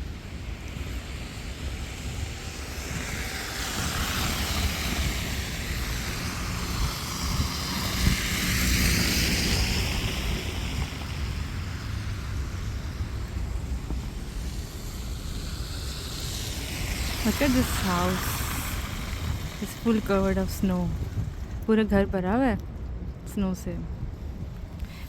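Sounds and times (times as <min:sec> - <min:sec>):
tyres hissing on wet road: 0:00.0 - 0:21.5, 0:24.2 - 0:25.0
wind rumble on microphone: 0:00.0 - 0:25.0.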